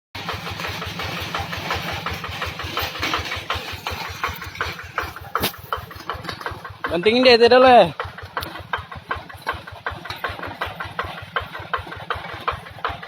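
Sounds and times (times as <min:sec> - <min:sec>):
tractor engine idling: 0:00.2 - 0:13.0.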